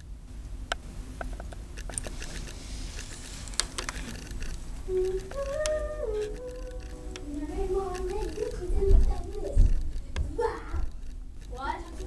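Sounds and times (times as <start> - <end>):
sharp clicks: 0.7 - 11.6.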